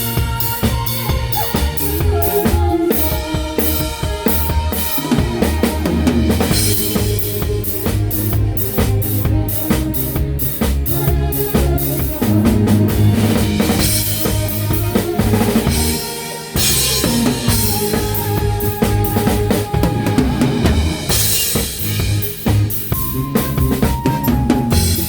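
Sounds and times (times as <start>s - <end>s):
drum kit: 0.0s - 25.0s
live band playing: 0.0s - 25.0s.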